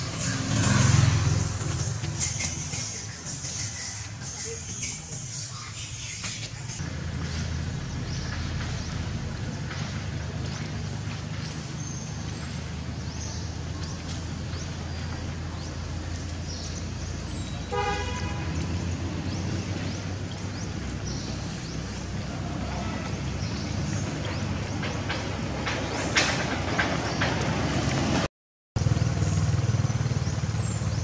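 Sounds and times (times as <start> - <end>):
traffic drone: 0.0 - 31.0.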